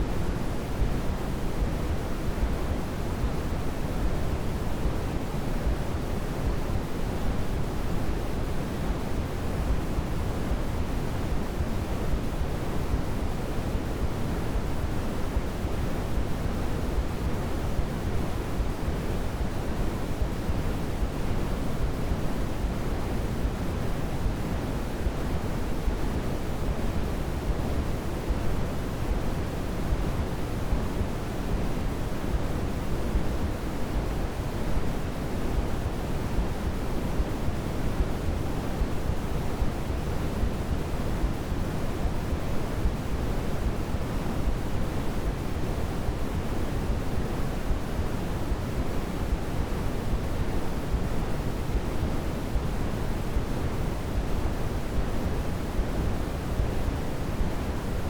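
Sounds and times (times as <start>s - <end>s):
soft white noise hiss: 0.0s - 58.0s.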